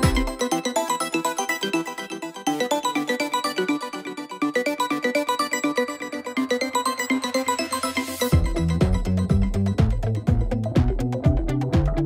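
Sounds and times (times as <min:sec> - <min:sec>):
electronic music plucked notes: 0:00.0 - 0:12.0.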